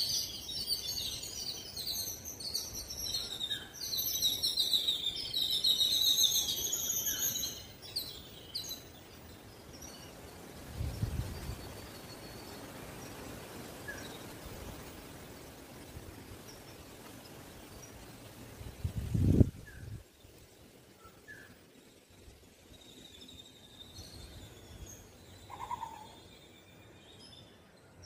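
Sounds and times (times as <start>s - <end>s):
faint outdoor background: 0.0s - 28.0s
small birds chirping: 0.0s - 28.0s.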